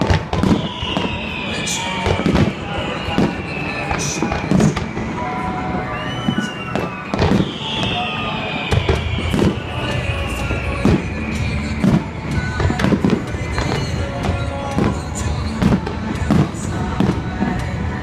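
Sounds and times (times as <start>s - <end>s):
fireworks booms and bangs: 0.0s - 5.4s, 6.3s - 18.0s
fireworks whistling: 0.0s - 18.0s.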